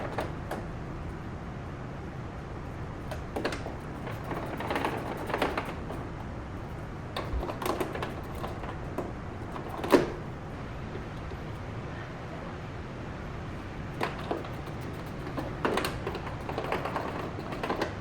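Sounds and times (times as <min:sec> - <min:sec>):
light clicks and knocks: 0:00.0 - 0:01.2, 0:02.6 - 0:11.6, 0:13.4 - 0:18.0
steady low hum: 0:00.0 - 0:18.0.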